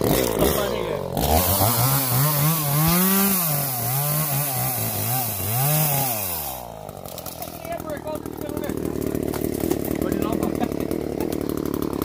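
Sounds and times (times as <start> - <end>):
chainsaw cutting: 0.0 - 12.0.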